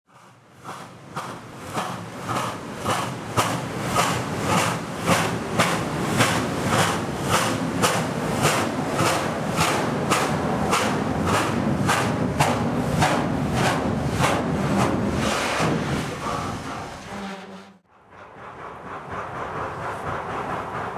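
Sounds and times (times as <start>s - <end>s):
steam locomotive exhaust chuffing: 0.1s - 20.9s.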